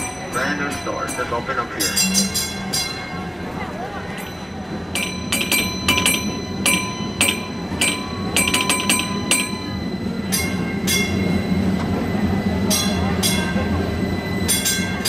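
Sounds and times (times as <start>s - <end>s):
trolley gong bell clanging: 0.0s - 15.0s
trolley rumbling on rails: 0.0s - 15.0s.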